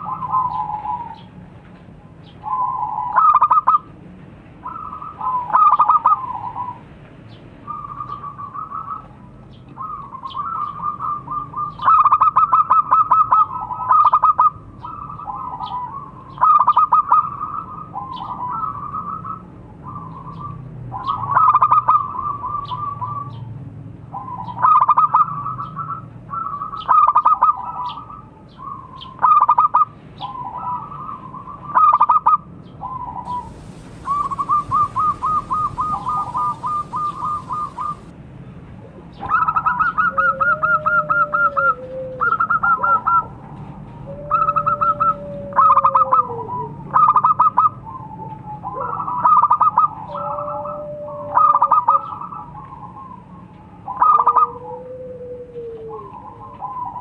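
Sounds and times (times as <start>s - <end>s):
dove cooing trills: 0.0s - 1.3s, 2.4s - 3.9s, 4.6s - 6.8s, 9.8s - 23.4s, 24.1s - 38.1s, 39.2s - 57.0s.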